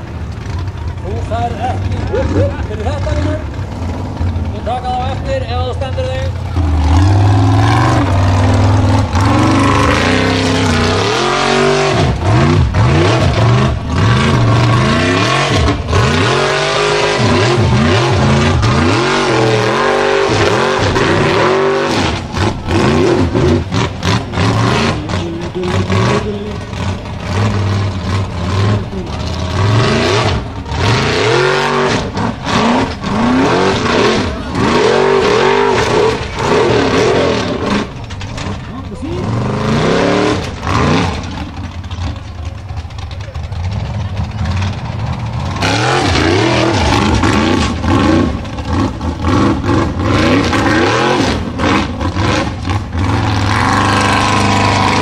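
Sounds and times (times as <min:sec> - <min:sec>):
buggy engine revving hard: 0:00.0 - 0:55.0.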